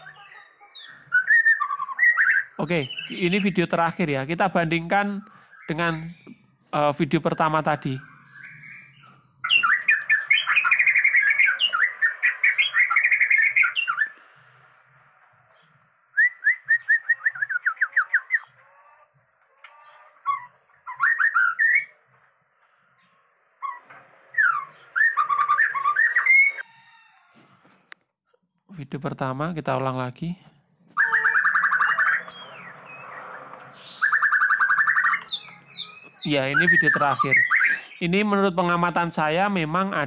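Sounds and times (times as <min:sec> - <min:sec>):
bird singing whistled notes: 0:00.0 - 0:06.8, 0:07.7 - 0:18.7, 0:19.7 - 0:26.8, 0:31.0 - 0:38.6.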